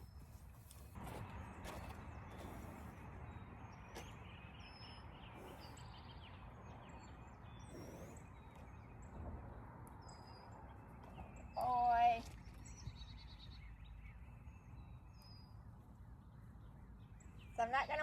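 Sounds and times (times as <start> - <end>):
birds chirping: 0.0 - 18.0
faint outdoor background: 0.0 - 18.0.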